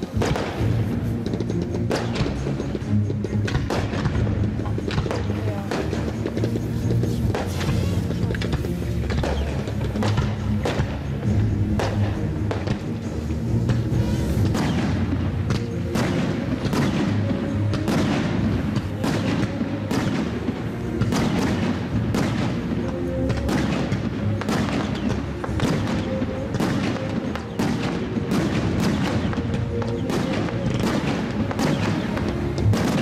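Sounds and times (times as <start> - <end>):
fireworks bursting: 0.0 - 33.0
music: 0.0 - 33.0.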